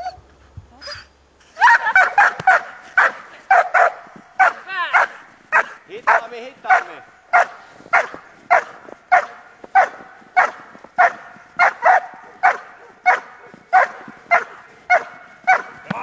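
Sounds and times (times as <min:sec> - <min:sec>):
dog barking: 0:01.9 - 0:15.8.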